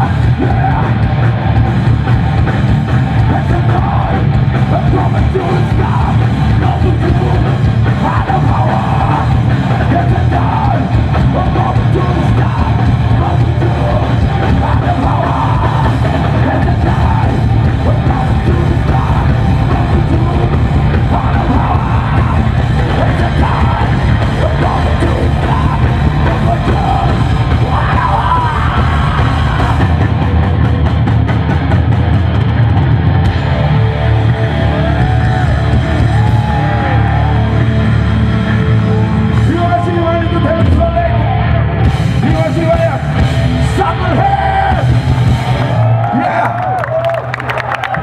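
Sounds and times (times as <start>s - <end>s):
heavy metal band playing live: 0.0s - 48.0s.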